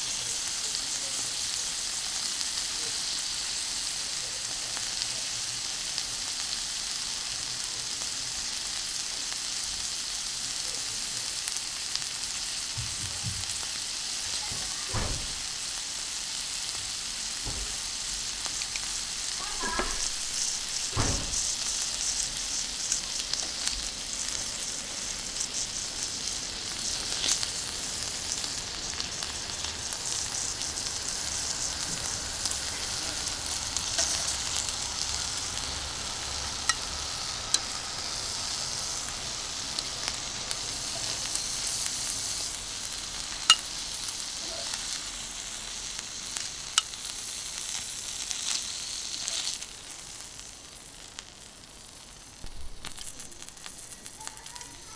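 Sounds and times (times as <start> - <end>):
meat sizzling on griddle: 0.0 - 54.9.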